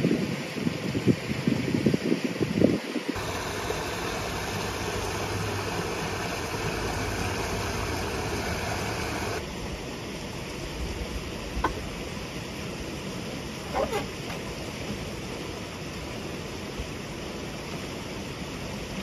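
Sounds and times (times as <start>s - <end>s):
stream rushing over rocks: 3.1s - 19.0s.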